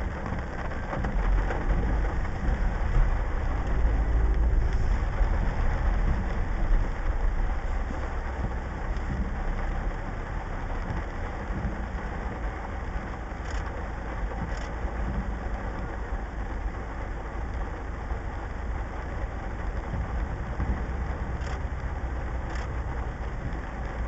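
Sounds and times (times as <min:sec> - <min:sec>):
rain and water hissing: 0:00.0 - 0:24.0
vehicle engine running: 0:00.0 - 0:24.0.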